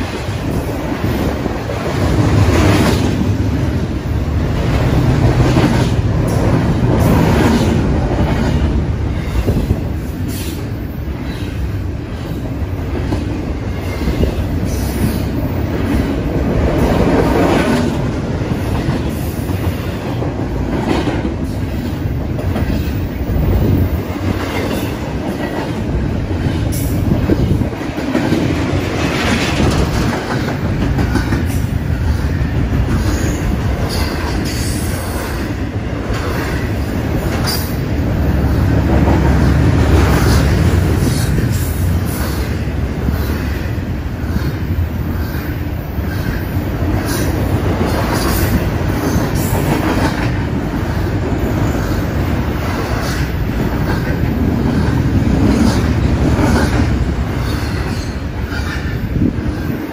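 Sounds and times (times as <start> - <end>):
steel wheels rumbling on rail: 0.0 - 59.9
wheels clacking on rail: 0.0 - 59.9.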